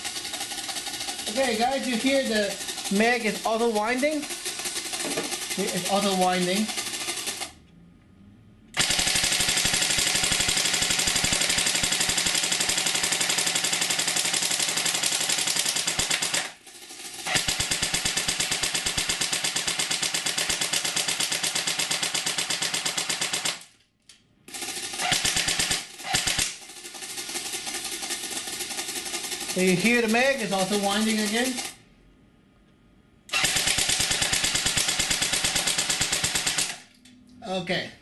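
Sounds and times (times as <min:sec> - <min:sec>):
airsoft machine gun firing: 0:00.0 - 0:07.5, 0:08.8 - 0:23.7, 0:24.5 - 0:31.8, 0:33.3 - 0:36.9.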